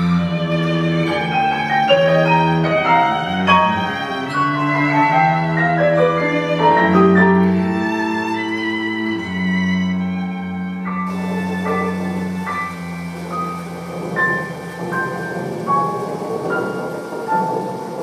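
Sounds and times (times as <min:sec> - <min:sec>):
violin and cello chamber music: 0:00.0 - 0:18.0.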